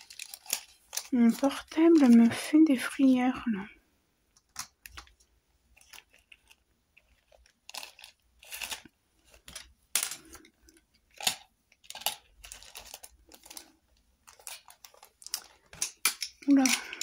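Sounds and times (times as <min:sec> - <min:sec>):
small objects clicking and rustling: 0:00.0 - 0:02.4, 0:04.4 - 0:17.0.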